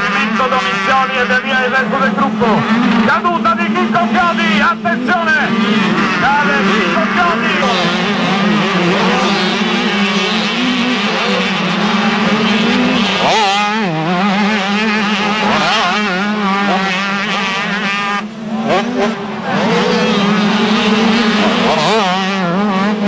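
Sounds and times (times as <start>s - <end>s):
dirt bike engines revving: 0.0s - 23.0s
low drone of engines: 0.0s - 23.0s.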